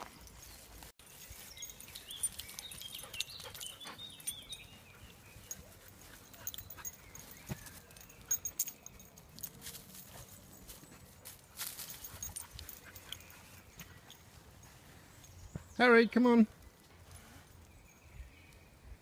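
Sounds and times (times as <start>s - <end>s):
birds calling: 0.0s - 9.2s, 10.8s - 18.8s.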